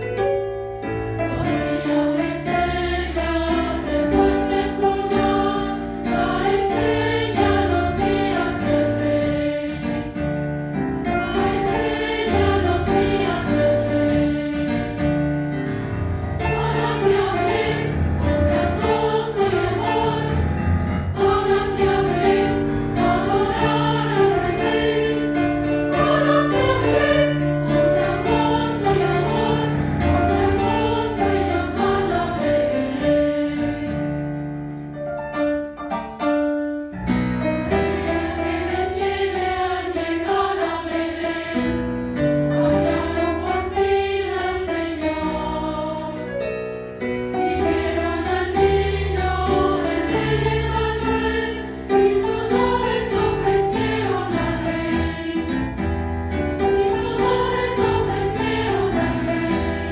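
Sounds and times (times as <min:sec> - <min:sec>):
girls' choir singing: 0:01.2 - 0:10.2, 0:11.1 - 0:15.0, 0:16.4 - 0:34.2, 0:37.7 - 0:41.9, 0:42.5 - 0:46.4, 0:47.4 - 0:55.7, 0:56.6 - 0:59.9.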